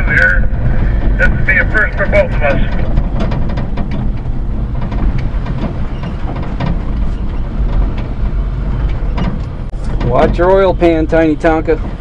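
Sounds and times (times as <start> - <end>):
truck knocks and rattles: 0.1 - 12.0.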